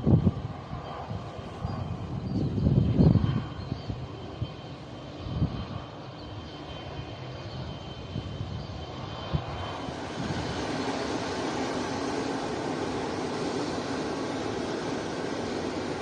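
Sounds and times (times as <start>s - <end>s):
airplane engine rumble: 0.0s - 16.0s.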